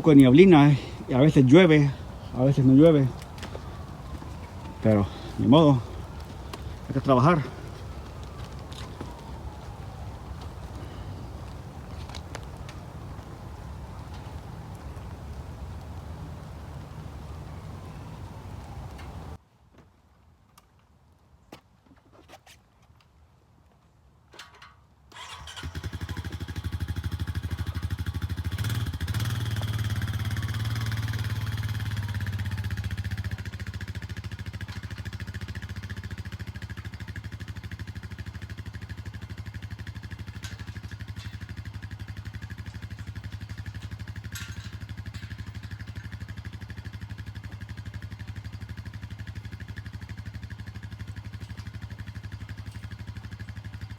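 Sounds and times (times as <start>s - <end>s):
engine running: 0.0s - 19.4s, 25.1s - 53.9s.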